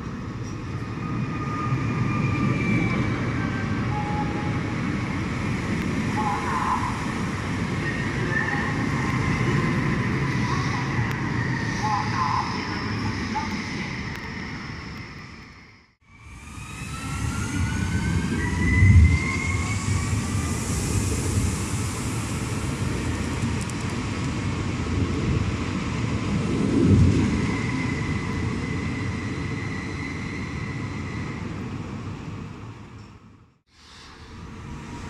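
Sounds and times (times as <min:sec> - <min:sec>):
wheels rumbling on rails: 0:00.0 - 0:35.0.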